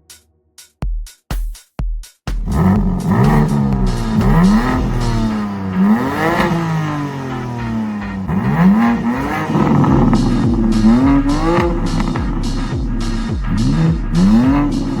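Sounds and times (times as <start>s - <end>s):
car engine revving: 2.4s - 15.0s.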